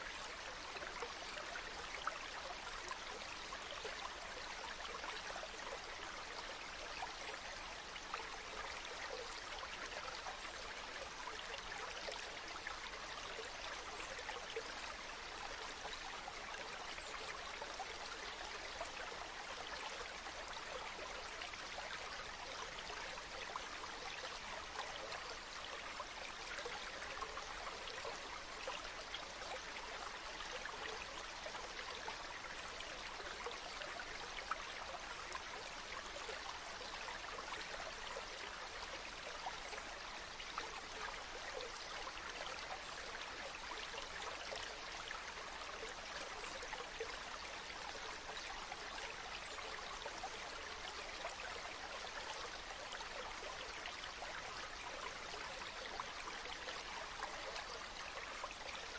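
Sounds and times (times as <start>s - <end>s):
stream trickling: 0.0s - 58.9s.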